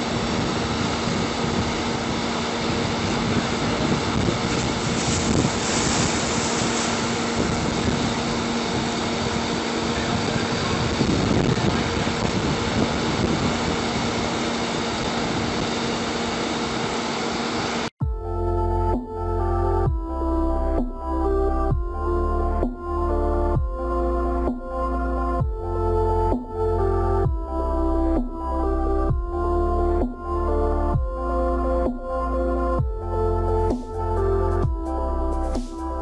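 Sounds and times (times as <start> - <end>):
heavy engine running: 0.0 - 36.0.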